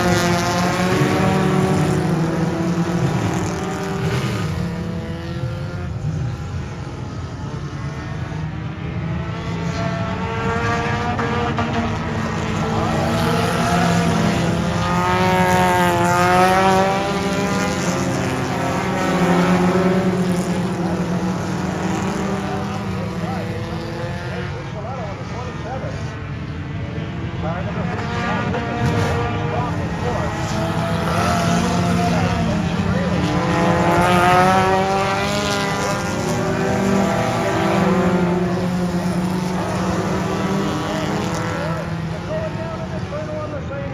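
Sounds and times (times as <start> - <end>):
race car engines: 0.0 - 43.9.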